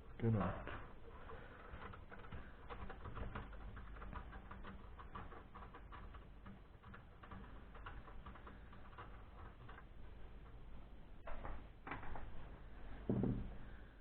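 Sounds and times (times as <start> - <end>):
computer parts clicking and rattling: 0.0 - 12.5.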